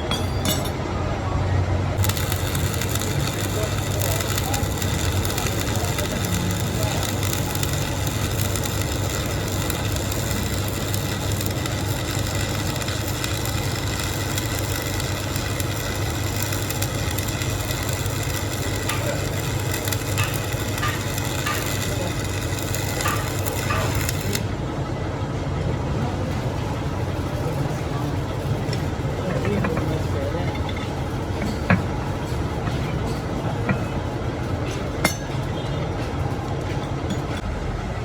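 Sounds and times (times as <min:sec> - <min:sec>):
metalworking crackling: 0:00.0 - 0:01.0, 0:01.9 - 0:24.9, 0:26.3 - 0:37.4
low machine hum: 0:00.0 - 0:38.0.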